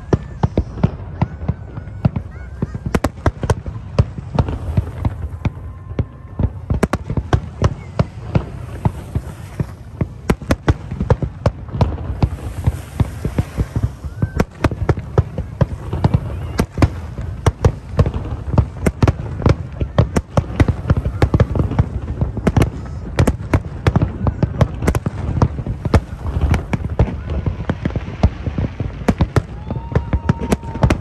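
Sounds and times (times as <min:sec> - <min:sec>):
fireworks bursts: 0:00.0 - 0:31.0.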